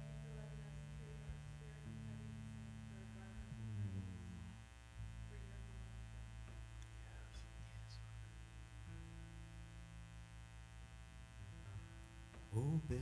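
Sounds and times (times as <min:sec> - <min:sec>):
faint mains hum: 0:00.0 - 0:13.0.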